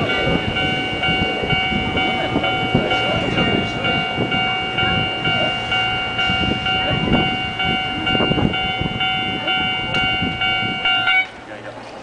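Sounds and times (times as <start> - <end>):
level-crossing alarm ringing: 0.0 - 11.4
train rumbling and knocking: 0.0 - 12.0.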